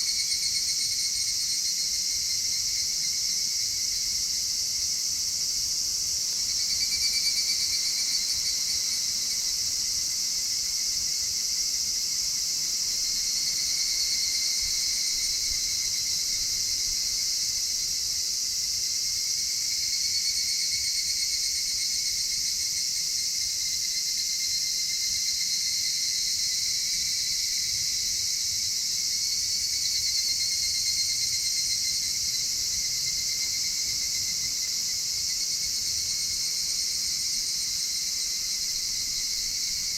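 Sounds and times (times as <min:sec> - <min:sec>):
insect chorus shrilling: 0:00.0 - 0:39.9.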